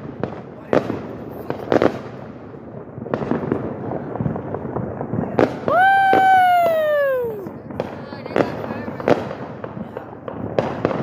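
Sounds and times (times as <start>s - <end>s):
firecrackers crackling: 0.0s - 11.0s
fireworks bangs: 0.0s - 11.0s.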